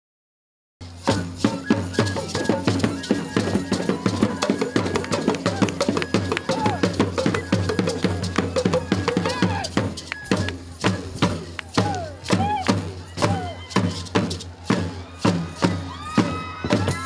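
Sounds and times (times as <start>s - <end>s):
sharp drum strokes: 0.8s - 17.0s.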